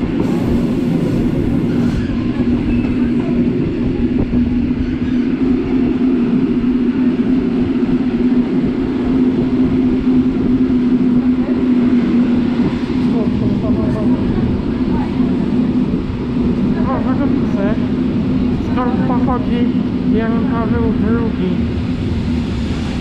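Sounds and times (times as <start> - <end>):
train rumbling from inside carriage: 0.0 - 23.0.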